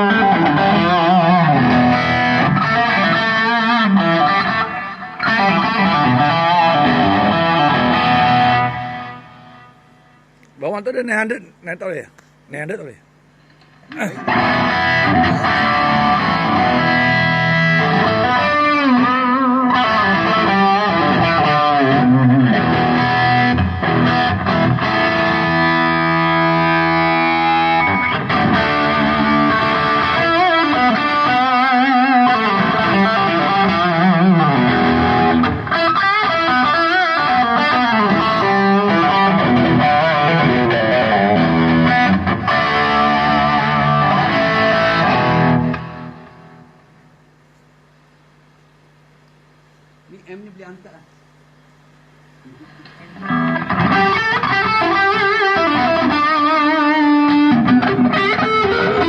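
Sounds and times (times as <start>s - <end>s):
distorted electric guitar: 0.0s - 51.5s, 52.1s - 59.0s.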